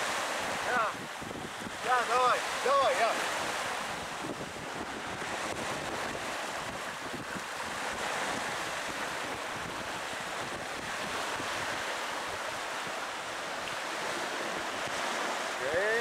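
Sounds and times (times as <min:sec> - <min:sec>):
small waves breaking on shore: 0:00.0 - 0:16.0
wind rumbling on microphone: 0:00.0 - 0:16.0.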